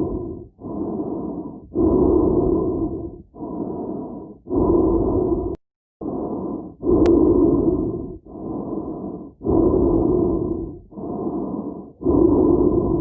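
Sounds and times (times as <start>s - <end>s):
muffled breathing inside helmet: 0.0s - 13.0s.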